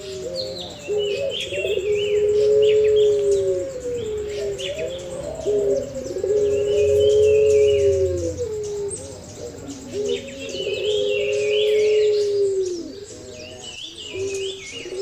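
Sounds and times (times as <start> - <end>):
dove cooing: 0.0 - 15.0
small birds chirping: 0.0 - 15.0.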